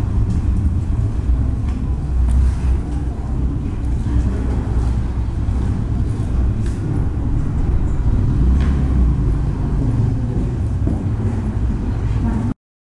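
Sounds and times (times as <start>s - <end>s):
low street rumble: 0.0s - 12.6s.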